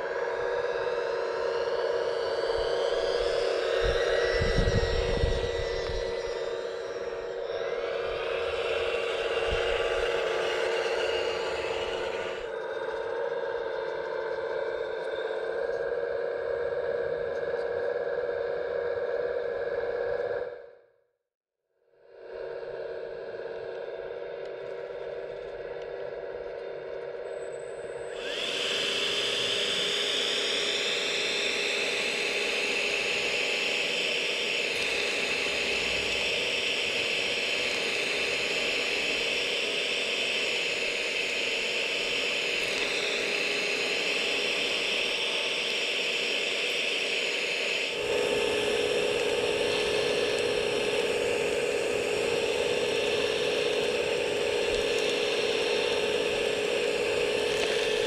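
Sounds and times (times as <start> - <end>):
hydraulic pump whining: 0.0 - 20.6, 23.6 - 58.0.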